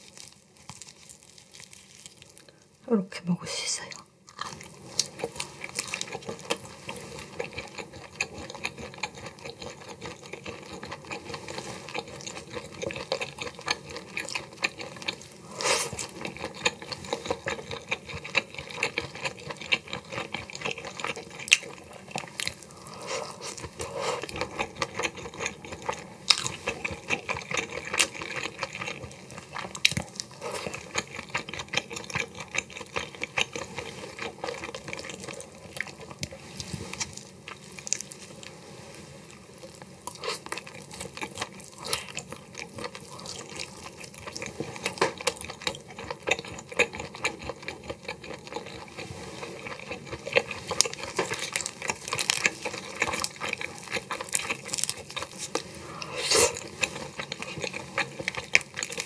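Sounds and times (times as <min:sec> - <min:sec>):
chewing and wet mouth sounds: 0:03.9 - 0:38.6, 0:39.3 - 0:59.0.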